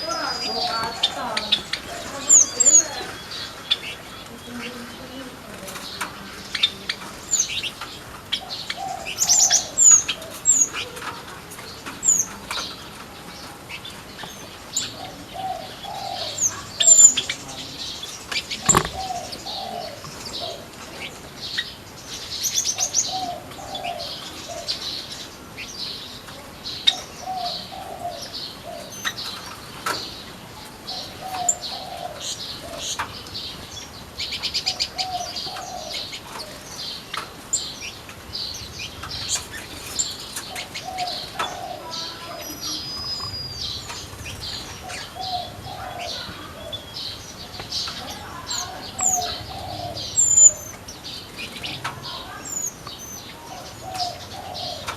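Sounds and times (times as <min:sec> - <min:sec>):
dove cooing: 0:00.0 - 0:21.6, 0:22.8 - 0:25.1, 0:25.9 - 0:33.3, 0:34.4 - 0:37.1, 0:38.9 - 0:52.5, 0:53.2 - 0:54.9
small birds chirping and twittering: 0:00.0 - 0:54.9.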